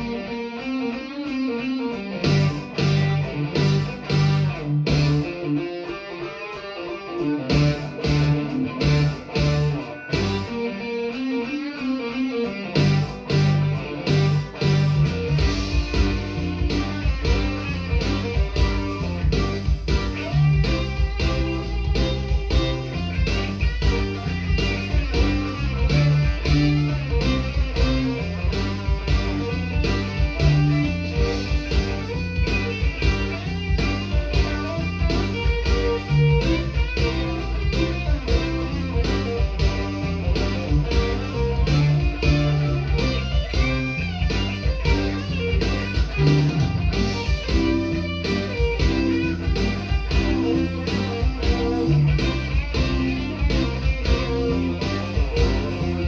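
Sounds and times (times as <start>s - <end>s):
electric guitar blues lead: 0.0s - 56.0s
steady beat: 0.0s - 56.0s
bass notes: 1.6s - 5.6s, 7.2s - 10.7s, 12.7s - 56.0s.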